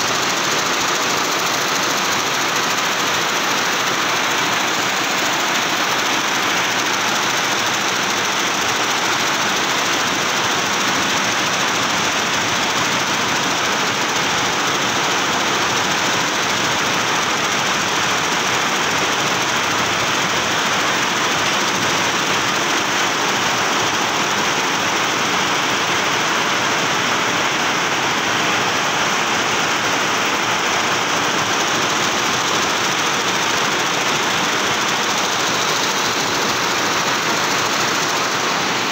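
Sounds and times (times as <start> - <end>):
embroidery machine running: 0.0 - 26.7, 27.7 - 38.9.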